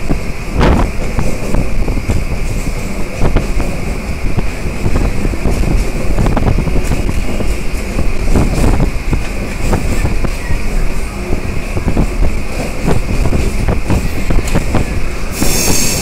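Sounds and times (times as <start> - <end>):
train rumble: 0.0 - 16.0
wind buffeting microphone: 0.0 - 16.0.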